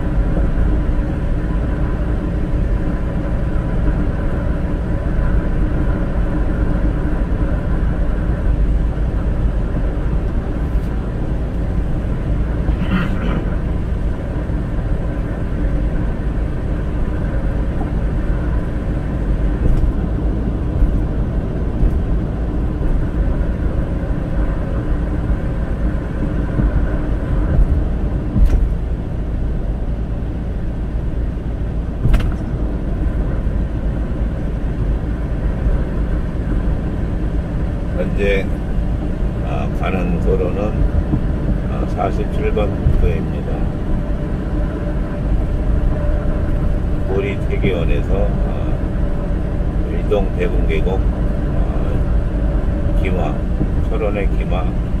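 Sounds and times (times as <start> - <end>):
car cabin rumble: 0.0 - 55.0.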